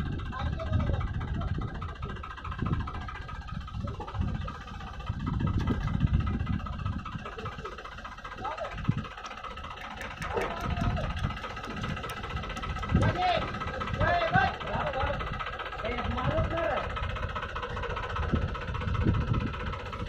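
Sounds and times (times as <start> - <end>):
tractor diesel engine running: 0.0 - 20.0
voices: 0.0 - 20.0.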